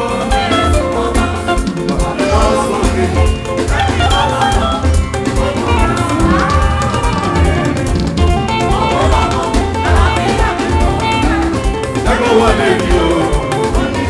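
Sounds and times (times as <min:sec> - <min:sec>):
church band music: 0:00.0 - 0:14.0
drums: 0:00.0 - 0:14.0
people singing praise song: 0:00.0 - 0:14.0.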